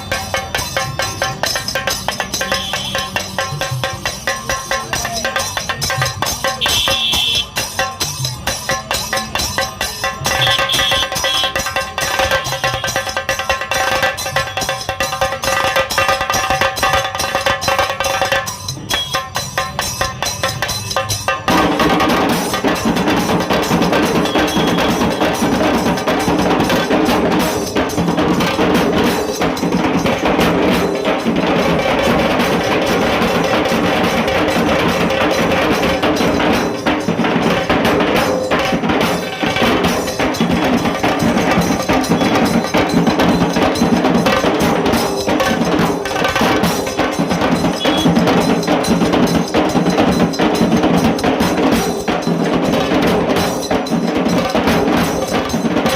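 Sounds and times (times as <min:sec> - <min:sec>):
drum ensemble playing fast rhythm: 0:00.0 - 0:55.9.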